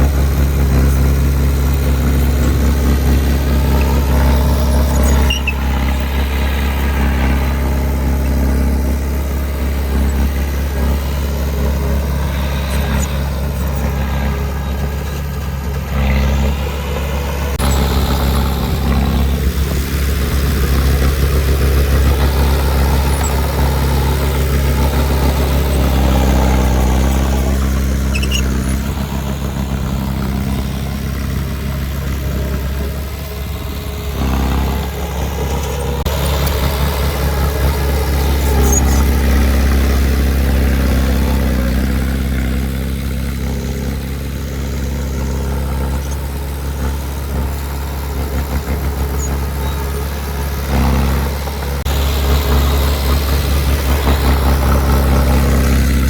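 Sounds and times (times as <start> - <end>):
heavy equipment diesel engine: 0.0 - 56.0.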